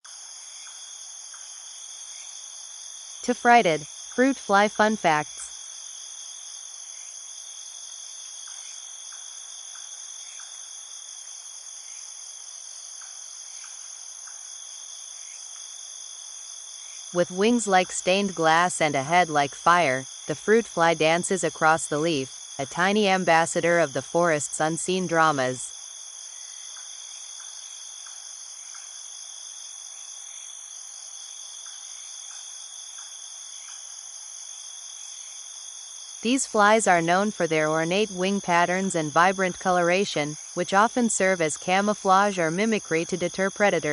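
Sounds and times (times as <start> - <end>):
insects trilling: 0.1 - 43.9.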